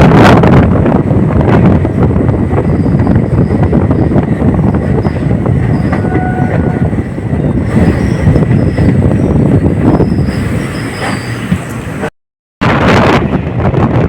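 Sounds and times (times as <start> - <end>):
train wheels rumbling on rails: 0.0 - 12.1, 12.7 - 14.0.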